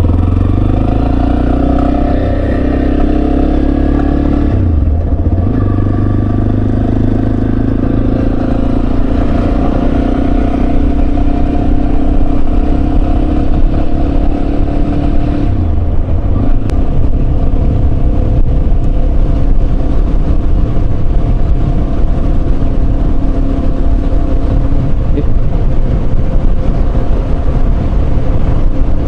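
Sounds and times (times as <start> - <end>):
motorcycle engine running: 0.0 - 29.0
wind rumble on microphone: 0.0 - 29.0.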